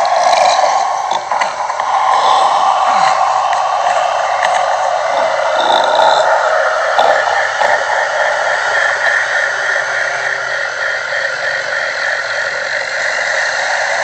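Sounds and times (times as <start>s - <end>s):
harsh grainy monster noise: 0.0s - 14.0s.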